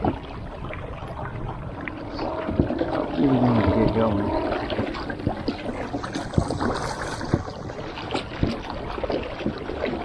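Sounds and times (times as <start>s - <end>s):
knocks and clicks from boat: 0.0s - 10.0s
water washing against hull: 0.0s - 10.0s.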